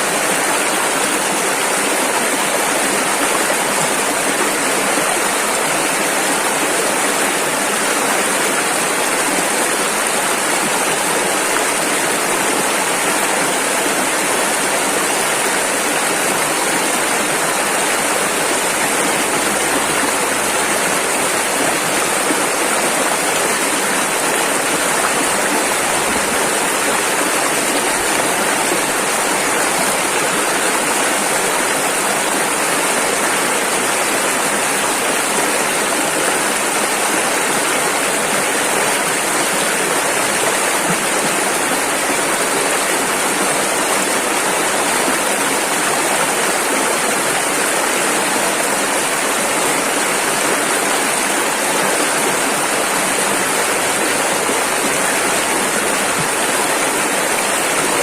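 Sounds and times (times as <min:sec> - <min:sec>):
river rapid rushing: 0:00.0 - 0:58.0.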